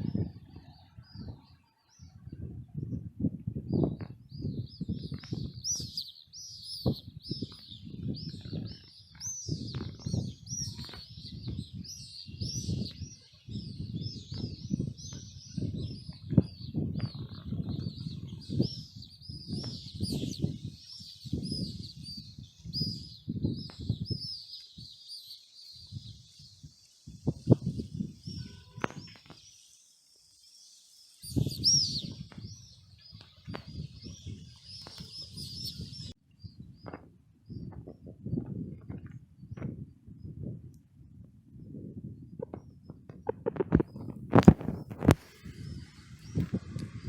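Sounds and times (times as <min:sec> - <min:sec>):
sparrows chirping: 0:00.0 - 0:38.4, 0:42.2 - 0:47.0.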